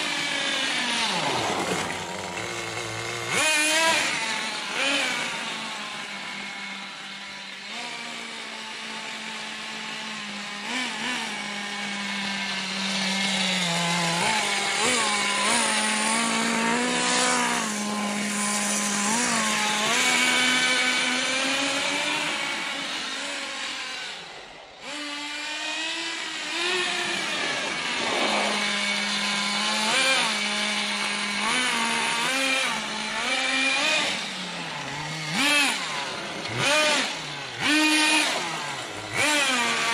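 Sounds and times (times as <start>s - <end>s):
small nitro engine buzzing: 0.0s - 39.9s.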